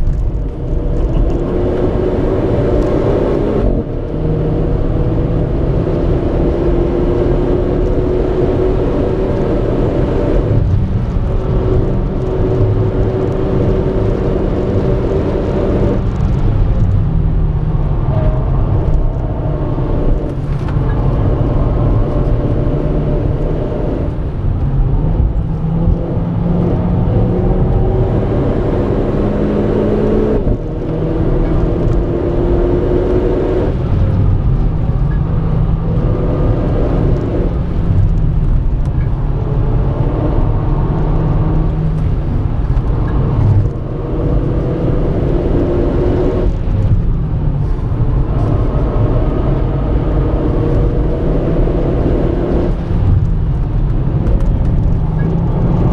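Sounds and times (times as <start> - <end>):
car engine accelerating hard: 0.0 - 55.9
road and tyre rumble: 0.0 - 55.9.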